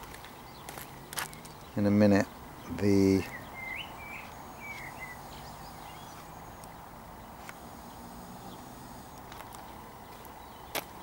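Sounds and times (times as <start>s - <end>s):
steady background hiss: 0.0s - 11.0s
faint bird chirps: 0.3s - 10.8s.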